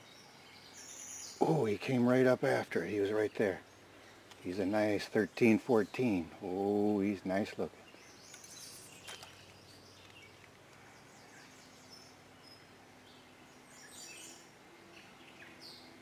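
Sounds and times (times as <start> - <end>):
faint steady low hum: 0.0 - 16.0
songbirds chirping: 0.0 - 16.0.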